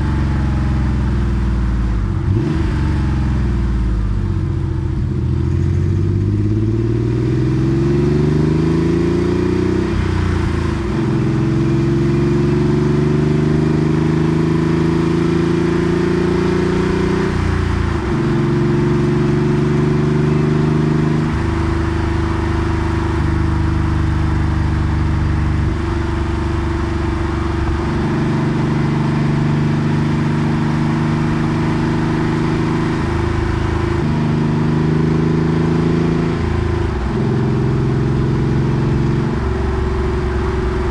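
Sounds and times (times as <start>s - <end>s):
car exhaust accelerating and shifting: 0.0s - 40.9s.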